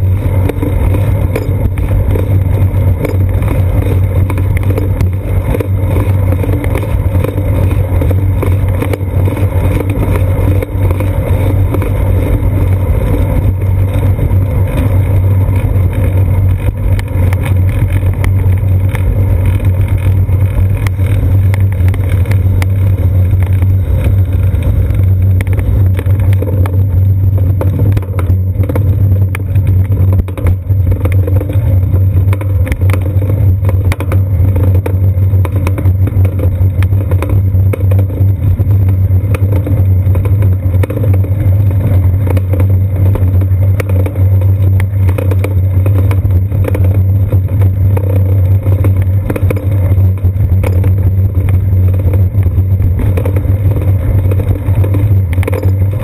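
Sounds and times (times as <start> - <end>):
clicks and knocks from bumps: 0.0 - 56.0
road vibration and wind rumble: 0.0 - 56.0.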